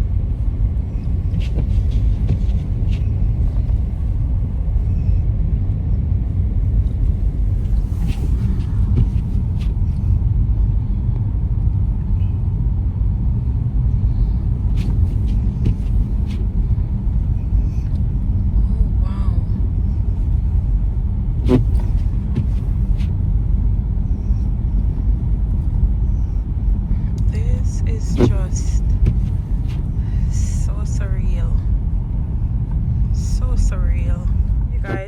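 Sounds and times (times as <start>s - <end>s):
car road rumble from inside: 0.0s - 35.0s.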